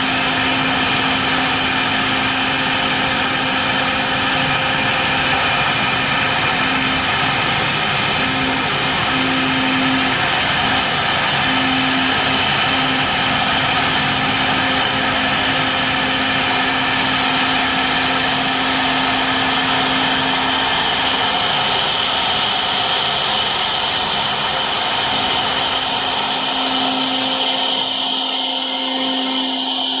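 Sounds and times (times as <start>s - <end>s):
cnc router spindles whining: 0.0s - 30.0s
dense cutting noise: 0.0s - 30.0s.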